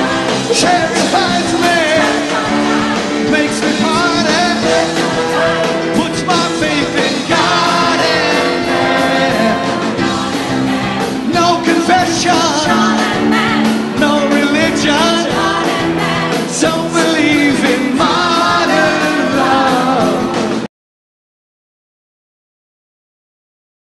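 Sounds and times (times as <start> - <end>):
person singing into microphone: 0.0 - 20.6
electric guitar: 0.0 - 20.7
rock band playing: 0.0 - 20.7.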